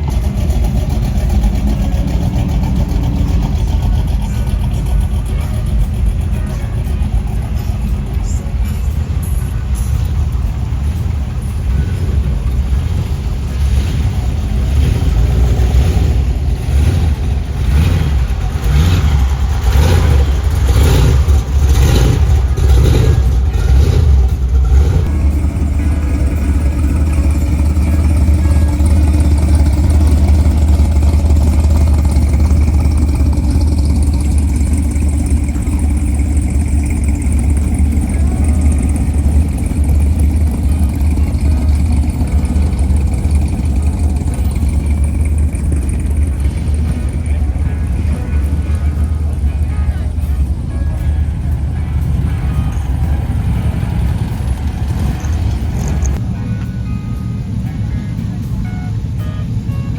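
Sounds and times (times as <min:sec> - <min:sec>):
car engines revving: 0:00.0 - 0:59.9
steady deep rumble: 0:00.0 - 0:59.9.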